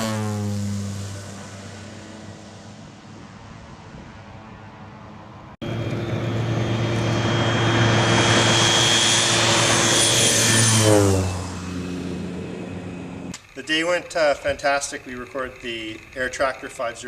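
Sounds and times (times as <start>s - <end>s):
turboprop engine with turbine whine: 0.0s - 17.0s.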